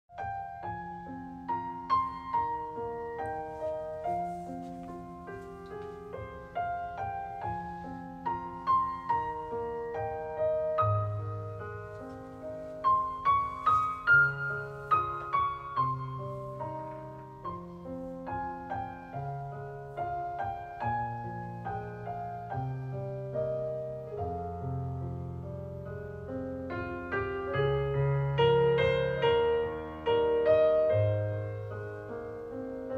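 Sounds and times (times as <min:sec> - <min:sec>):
piano music: 0:00.1 - 0:32.9.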